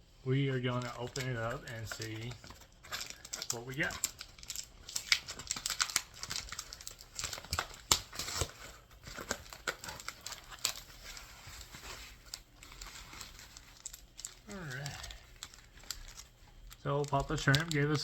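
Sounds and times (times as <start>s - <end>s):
packaging crinkling and tearing: 0.4s - 18.0s.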